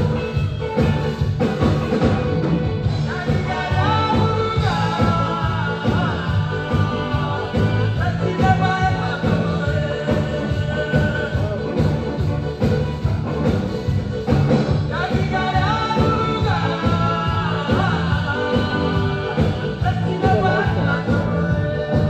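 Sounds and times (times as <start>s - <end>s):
drums and bass beat: 0.0s - 22.0s
person singing: 2.9s - 22.0s.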